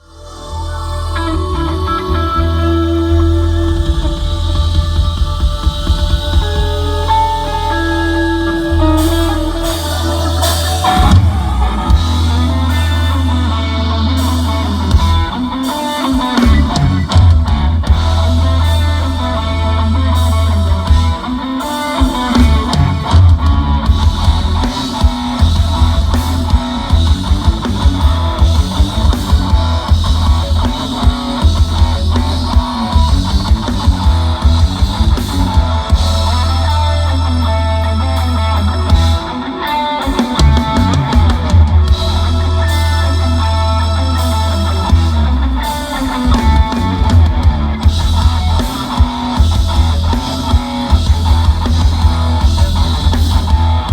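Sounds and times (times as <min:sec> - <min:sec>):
bass guitar: 0:00.0 - 0:53.9
electric guitar: 0:00.0 - 0:53.9.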